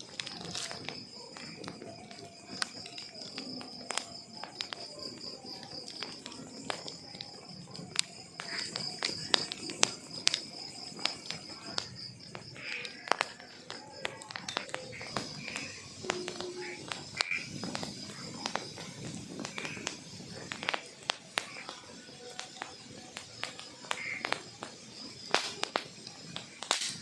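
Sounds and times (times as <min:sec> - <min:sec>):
cricket trilling: 0:00.0 - 0:27.0
wood fire crackling: 0:00.0 - 0:27.0.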